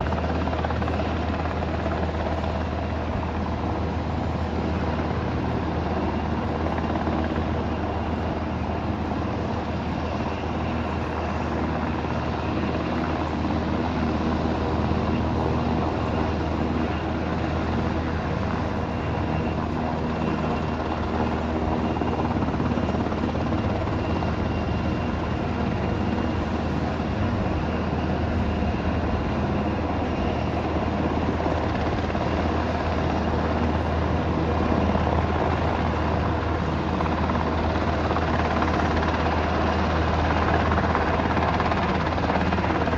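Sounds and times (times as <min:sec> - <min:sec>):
helicopter rotor drone: 0:00.0 - 0:42.9.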